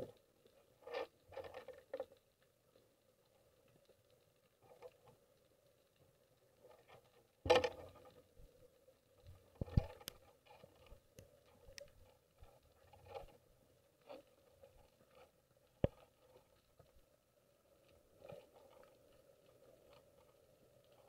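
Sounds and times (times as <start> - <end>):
underwater water noise: 0.0 - 21.0.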